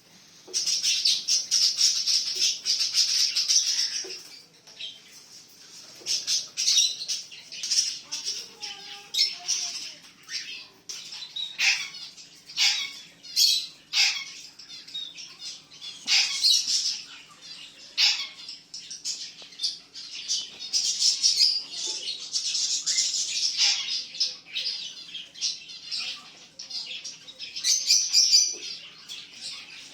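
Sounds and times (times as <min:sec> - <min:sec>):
small birds chirping and squawking: 0:00.0 - 0:29.9.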